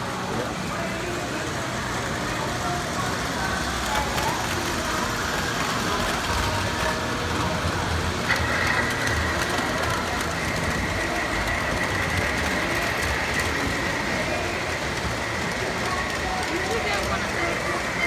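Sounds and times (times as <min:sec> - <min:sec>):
model train wheels rumbling: 0:00.0 - 0:18.0.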